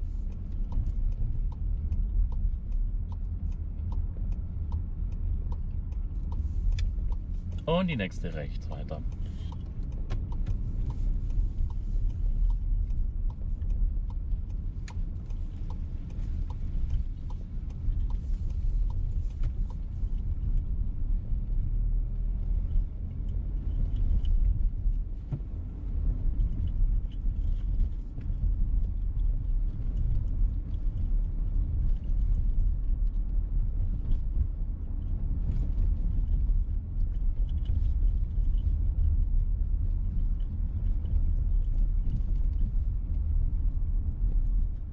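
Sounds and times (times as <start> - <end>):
car road and engine rumble: 0.0 - 44.9
turn indicator ticking: 0.0 - 44.9.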